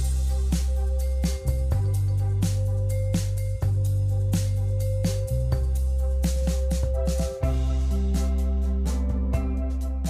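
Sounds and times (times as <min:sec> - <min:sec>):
deep sustained bass notes: 0:00.0 - 0:10.0
music with steady drum beat: 0:00.0 - 0:10.0.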